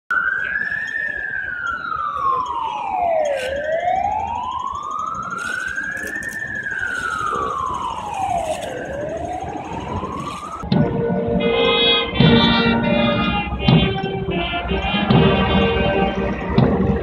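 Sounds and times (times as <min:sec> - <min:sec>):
emergency siren wailing: 0:00.1 - 0:17.0
second higher siren: 0:00.1 - 0:17.0.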